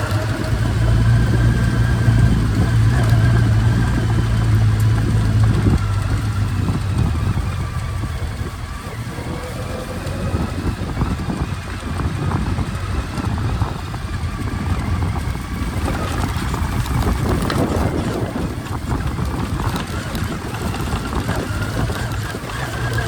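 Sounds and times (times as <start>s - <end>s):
motorcycle engine: 0.0s - 23.0s
wind buffeting microphone: 0.0s - 23.0s.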